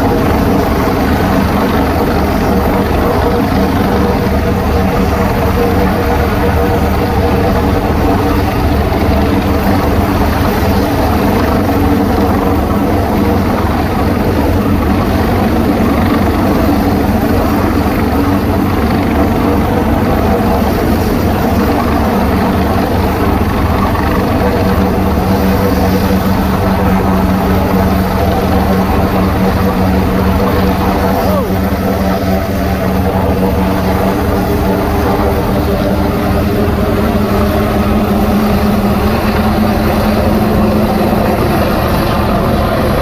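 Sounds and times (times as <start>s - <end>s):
helicopter rotor and turbine noise: 0.0s - 43.0s.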